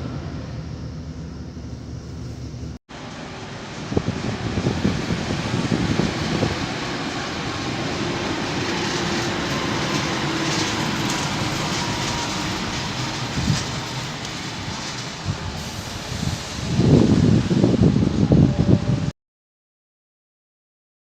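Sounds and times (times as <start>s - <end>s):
train rumbling past: 0.0s - 19.1s.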